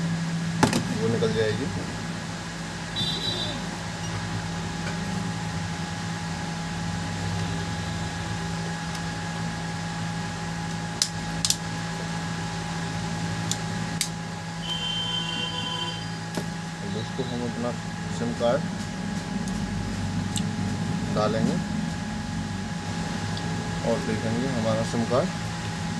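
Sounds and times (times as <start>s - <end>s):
steady machine hum: 0.0s - 25.9s.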